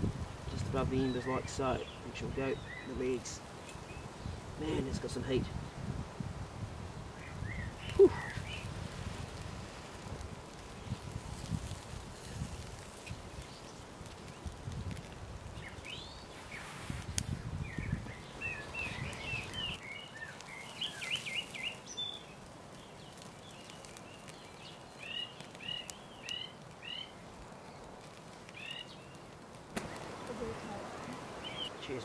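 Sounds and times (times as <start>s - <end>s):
wood fire crackling: 0.0s - 32.0s
small birds chirping: 0.3s - 5.4s, 7.1s - 32.0s.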